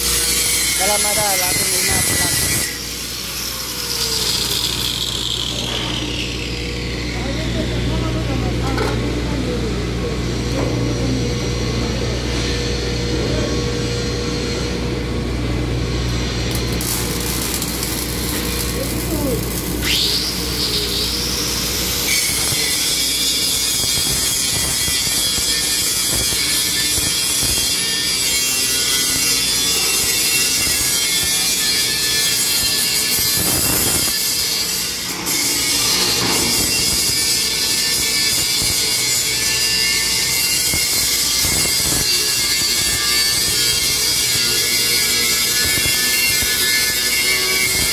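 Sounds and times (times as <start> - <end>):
arc welding crackling hiss: 0.0 - 8.3, 13.8 - 47.9.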